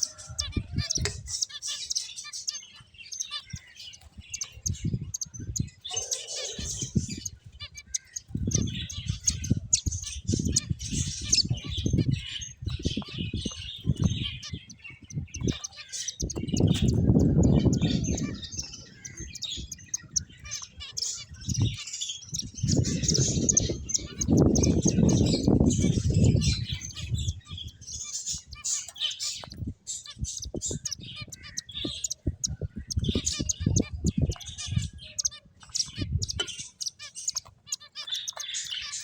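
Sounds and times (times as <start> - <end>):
finches chirping: 0.0 - 39.0.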